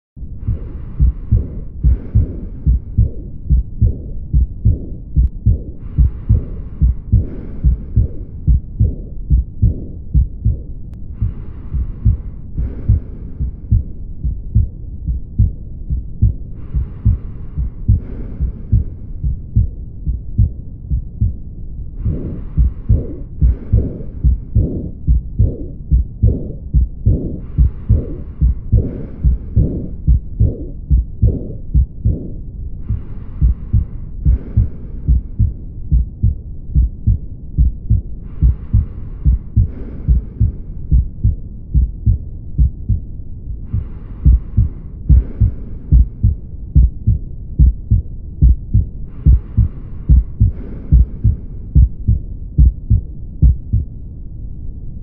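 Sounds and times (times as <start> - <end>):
heartbeat low thumps: 0.2 - 54.0.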